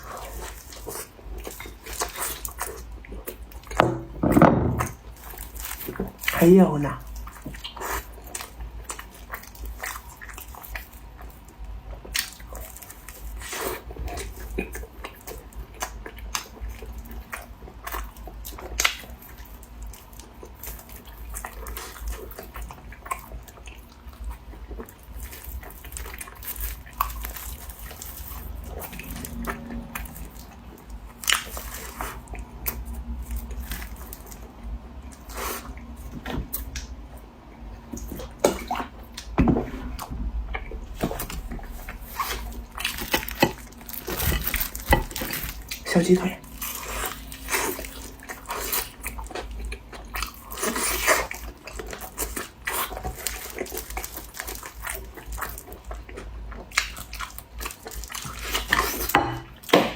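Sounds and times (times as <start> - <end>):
crunchy chewing: 0.0 - 3.9, 4.8 - 59.8.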